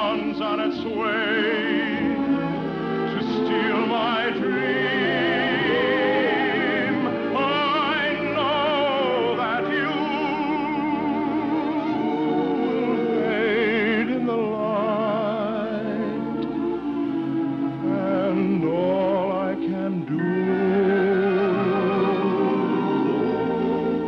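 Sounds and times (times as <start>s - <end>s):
operatic singing: 0.0s - 24.0s
orchestra playing: 0.0s - 24.0s.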